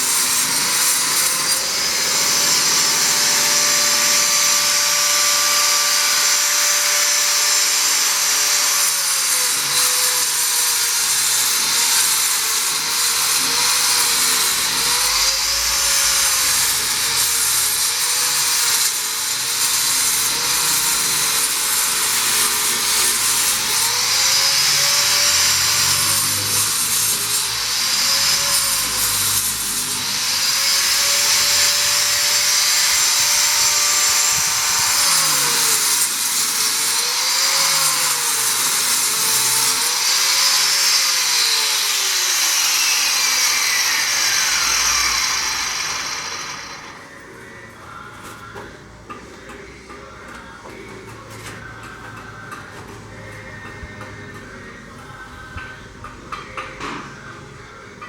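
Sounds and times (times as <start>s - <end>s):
angle grinder cutting brick: 0.0s - 47.2s.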